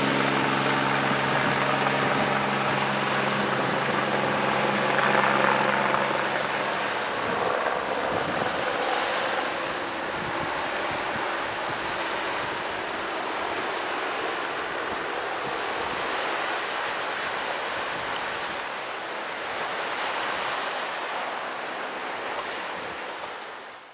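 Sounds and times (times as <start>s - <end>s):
helicopter flying away: 0.0s - 23.6s
wind: 0.0s - 23.9s.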